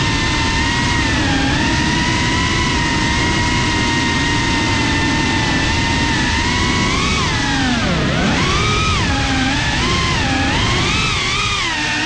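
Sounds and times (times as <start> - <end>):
drone motors whining: 0.0 - 12.0
rush of prop wash and wind: 0.0 - 12.0.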